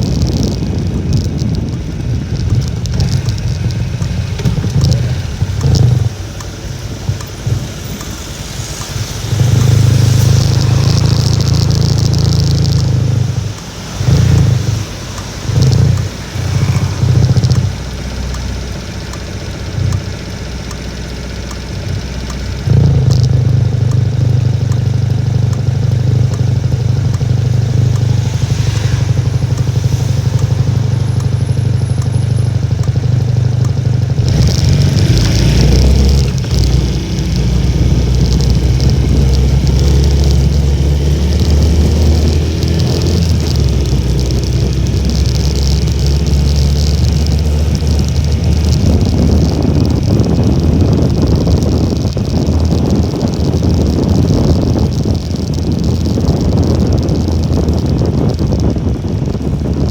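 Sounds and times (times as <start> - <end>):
wind buffeting microphone: 0.0 - 20.2, 21.7 - 59.9
motorcycle engine running: 0.0 - 59.9.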